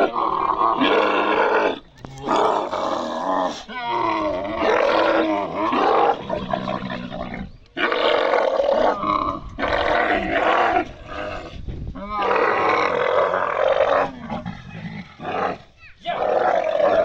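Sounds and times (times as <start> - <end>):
camel bellowing: 0.0 - 17.0.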